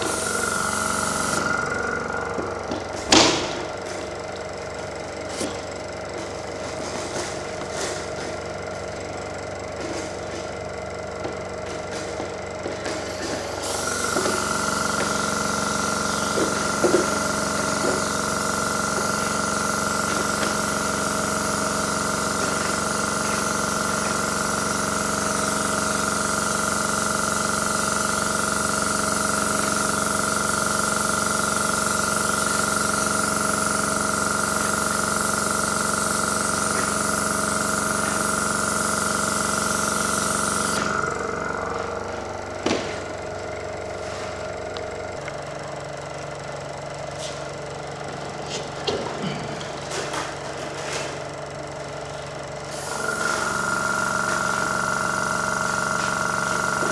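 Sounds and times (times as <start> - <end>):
motor whining steadily: 0.0 - 56.9.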